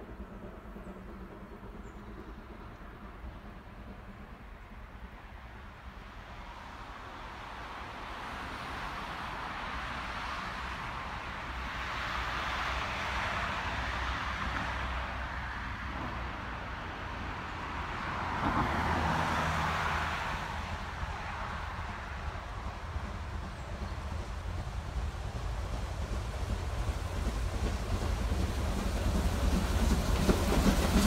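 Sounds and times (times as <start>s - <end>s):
steam locomotive approaching: 0.0s - 31.0s.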